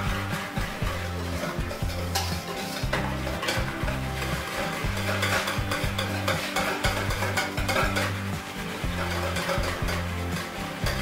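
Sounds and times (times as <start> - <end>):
wire whisk beating liquid in metal bowl: 0.0 - 11.0.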